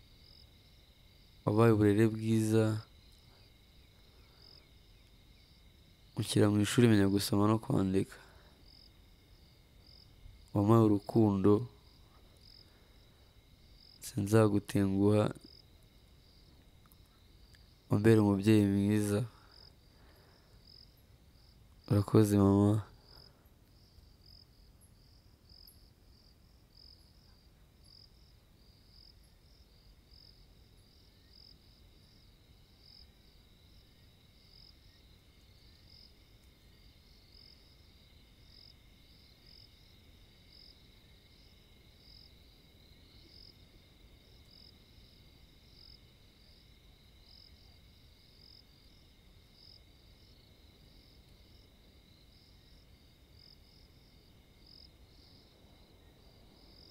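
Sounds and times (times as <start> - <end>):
insect chirping: 0.0 - 56.9.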